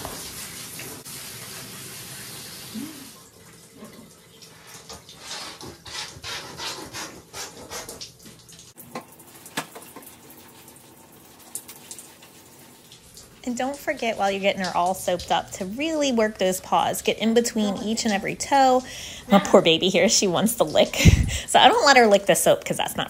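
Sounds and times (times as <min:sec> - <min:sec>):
shower sprayer running water: 0:00.0 - 0:03.2, 0:04.4 - 0:23.0.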